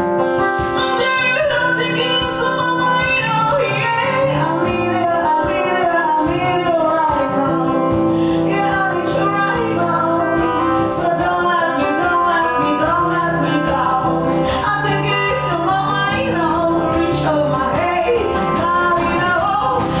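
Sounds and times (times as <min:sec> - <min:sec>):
person singing: 0:00.0 - 0:20.0
plucked guitar: 0:00.0 - 0:20.0.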